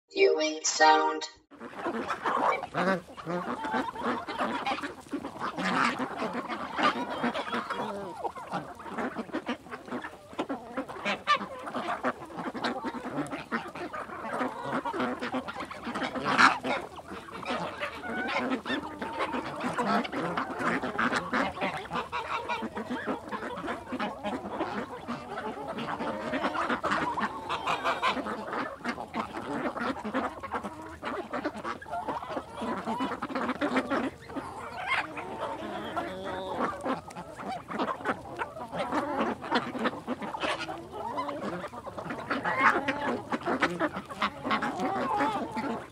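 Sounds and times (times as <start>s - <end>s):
ducks quacking: 1.7s - 45.9s
geese honking: 2.4s - 45.9s.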